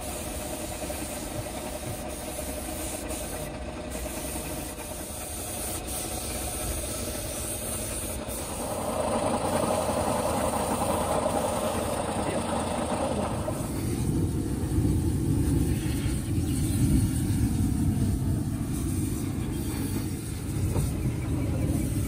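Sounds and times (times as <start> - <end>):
engine or compressor humming: 0.0 - 22.0
spray gun hissing: 0.0 - 22.0.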